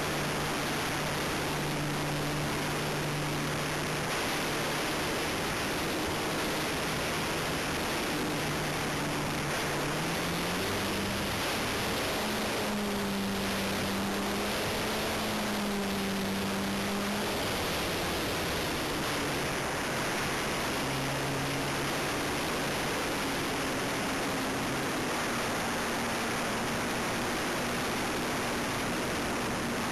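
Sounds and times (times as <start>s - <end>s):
propeller hum: 0.0s - 29.9s
wind rushing over microphone: 0.0s - 29.9s.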